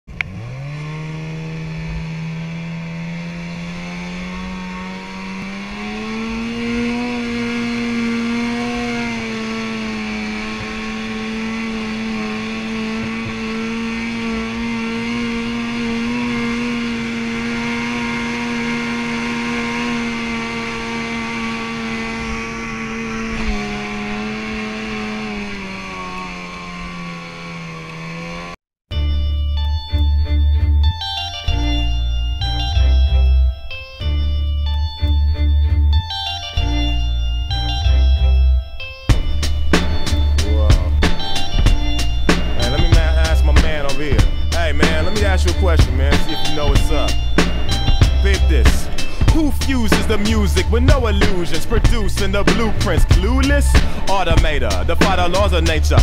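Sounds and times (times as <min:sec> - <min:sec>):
snowmobile engine at high revs: 0:00.0 - 0:28.6, 0:29.6 - 0:56.0.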